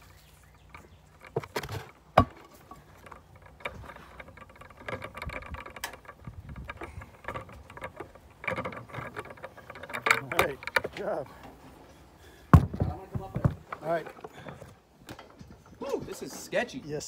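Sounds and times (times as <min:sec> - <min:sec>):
rope scraping and clattering: 0:00.0 - 0:17.0.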